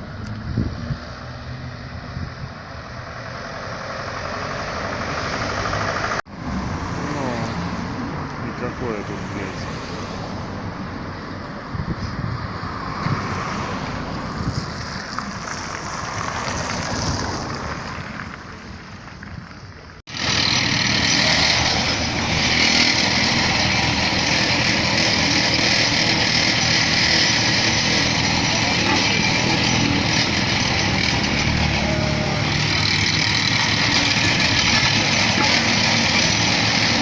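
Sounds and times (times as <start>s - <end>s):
engine running close by: 0.0s - 10.6s, 11.7s - 37.0s
machinery engines running: 0.0s - 37.0s.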